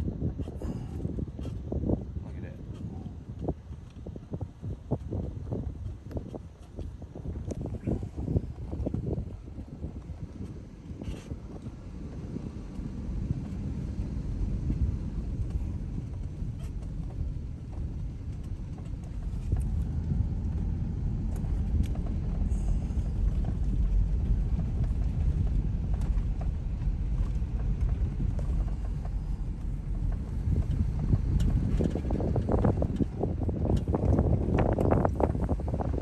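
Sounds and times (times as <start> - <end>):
vehicle driving rumble: 0.0 - 36.0
wind on microphone: 0.0 - 36.0.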